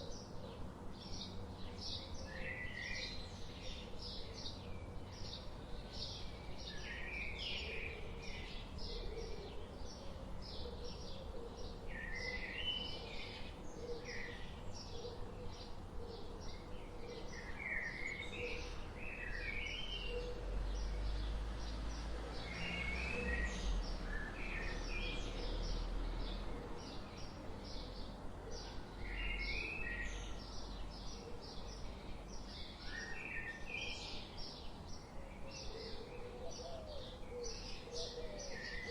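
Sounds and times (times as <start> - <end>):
birds warbling song: 0.0 - 38.9.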